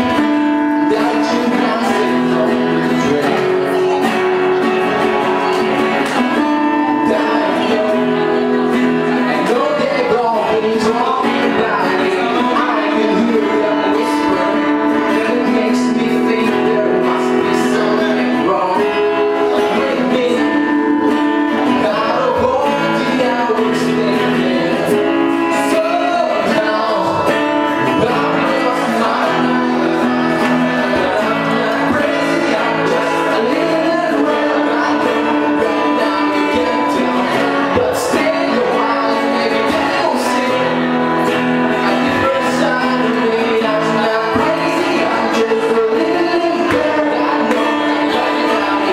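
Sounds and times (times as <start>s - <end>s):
guitar: 0.0s - 48.9s
live band playing: 0.0s - 48.9s
person singing: 0.0s - 48.9s.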